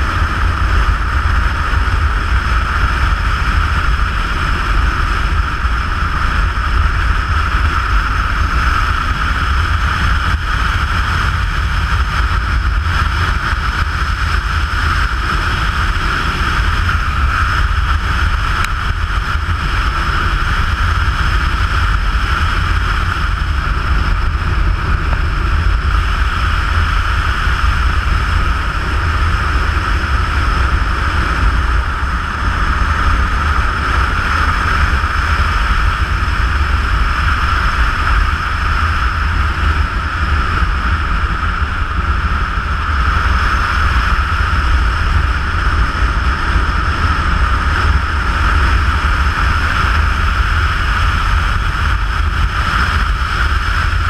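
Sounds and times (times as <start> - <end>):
road and engine rumble: 0.0 - 54.0
wind rushing on microphone: 0.0 - 54.0.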